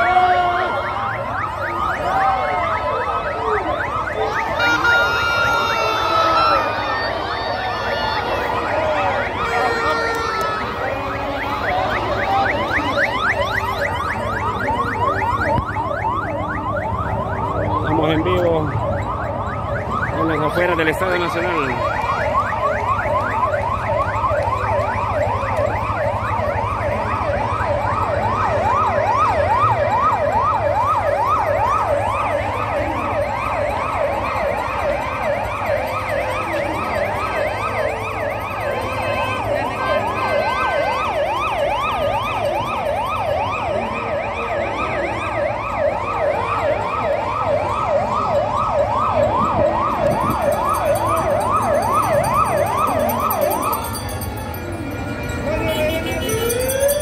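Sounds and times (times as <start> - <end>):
electronic siren yelping: 0.0 - 57.0.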